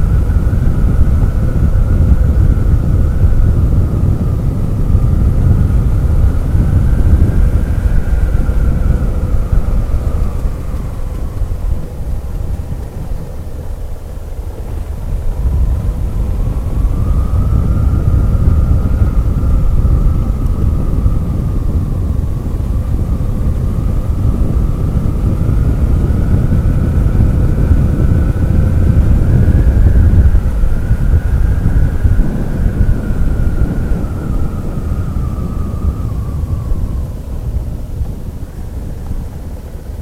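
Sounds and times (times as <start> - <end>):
motorcycle engine: 0.0 - 39.8
wind rumble on microphone: 0.0 - 40.0.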